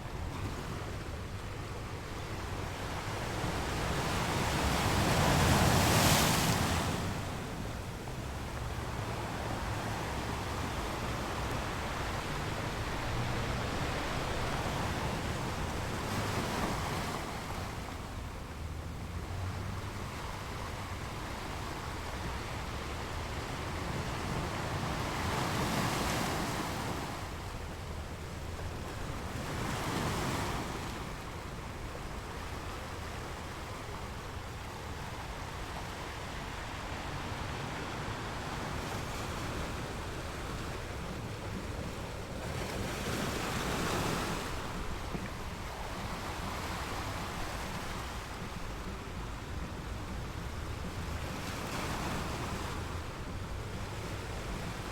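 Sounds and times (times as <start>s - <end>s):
sea waves washing ashore: 0.0s - 54.9s.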